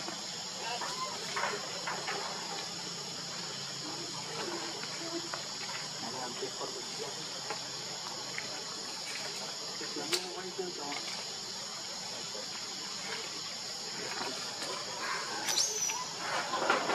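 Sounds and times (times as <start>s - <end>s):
high-pitched insect chorus: 0.0s - 16.9s.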